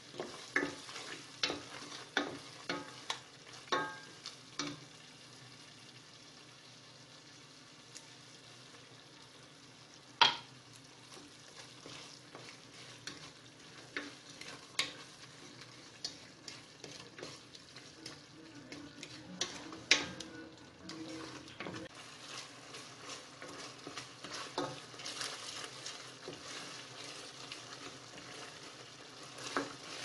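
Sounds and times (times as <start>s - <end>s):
spoon scraping against pan: 0.0s - 4.9s, 10.2s - 30.0s
food simmering and sizzling: 0.0s - 30.0s.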